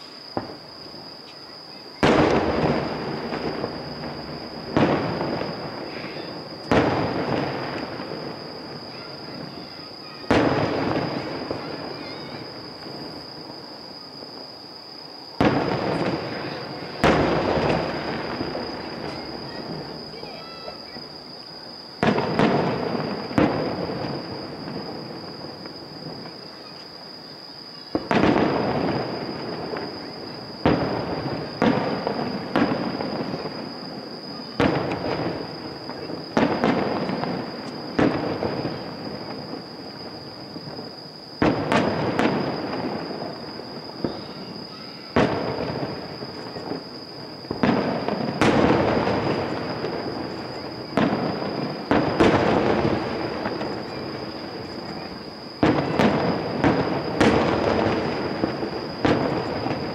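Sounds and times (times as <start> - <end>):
firework booms echoing: 0.0 - 1.0, 1.9 - 14.4, 15.3 - 26.8, 27.8 - 59.9.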